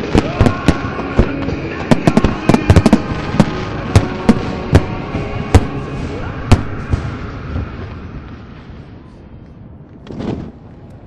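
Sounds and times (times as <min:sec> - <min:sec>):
fireworks bangs: 0:00.0 - 0:09.0.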